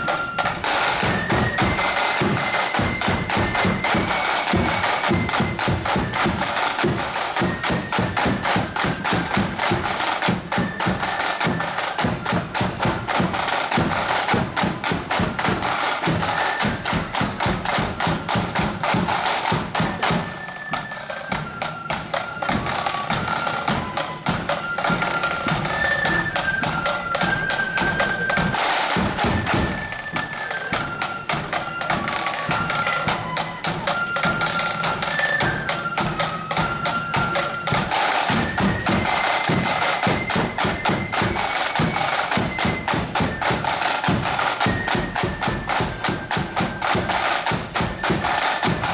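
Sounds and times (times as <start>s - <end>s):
snare drums rattling: 0.0s - 48.9s.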